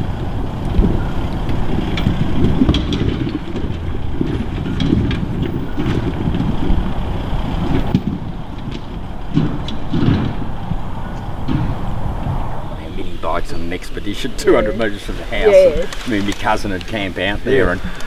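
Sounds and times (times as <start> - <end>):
rocks crunching under tyres: 0.0 - 12.4, 14.2 - 18.0
vehicle engine under load: 0.0 - 18.0.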